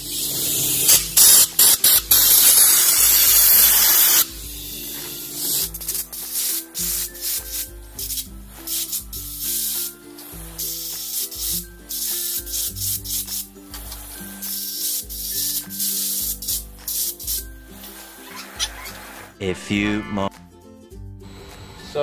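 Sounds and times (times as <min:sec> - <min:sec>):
compressed air hissing: 0:00.0 - 0:19.4.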